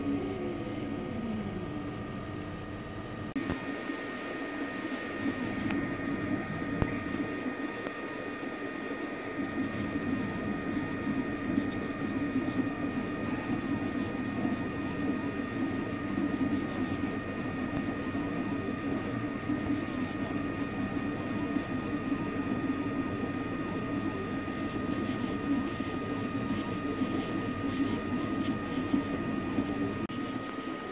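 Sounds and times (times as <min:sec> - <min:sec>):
printer mechanical hum: 0:00.0 - 0:30.9.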